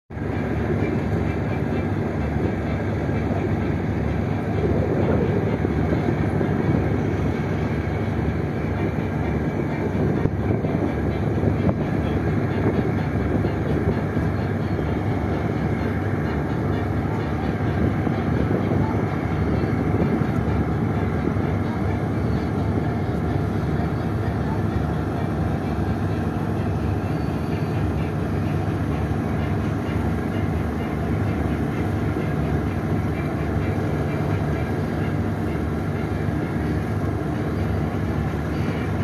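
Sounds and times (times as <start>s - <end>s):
boat engine rumbling: 0.1s - 39.0s.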